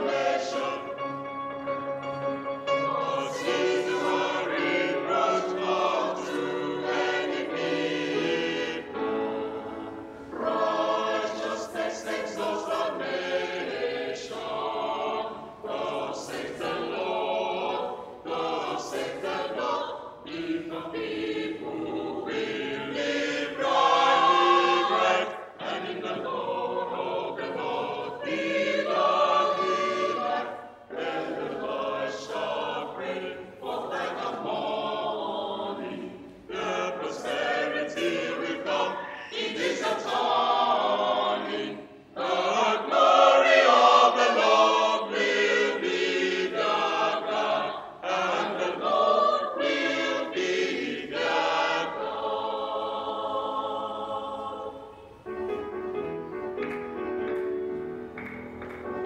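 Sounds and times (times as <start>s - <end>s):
mixed choir singing: 0.0s - 55.3s.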